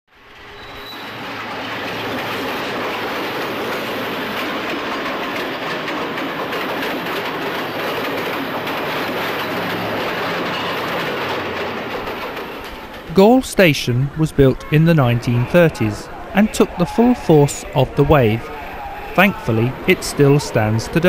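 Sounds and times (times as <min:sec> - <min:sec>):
train wheels on rails: 0:00.1 - 0:21.0.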